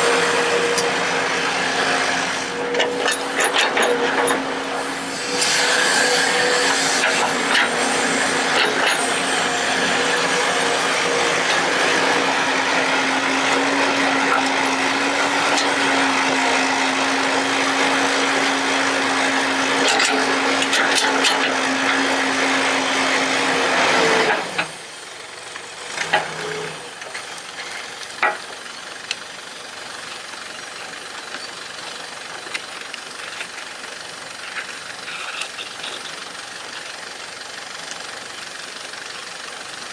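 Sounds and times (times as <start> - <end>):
excavator running: 0.0 - 39.9.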